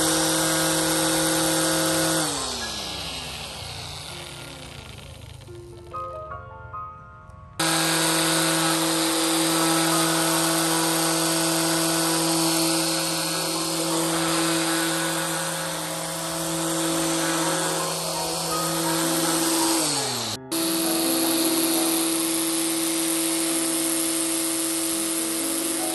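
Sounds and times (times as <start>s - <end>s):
grass trimmer motor whine: 0.0s - 6.0s, 7.6s - 25.9s.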